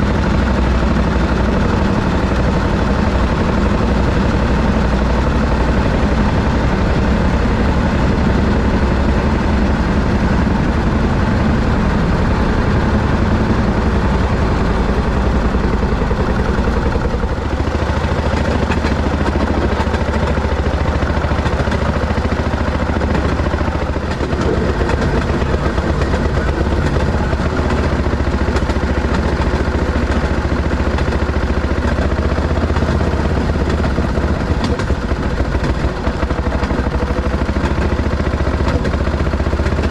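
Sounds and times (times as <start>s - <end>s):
rail motorcar engine running: 0.0s - 39.9s.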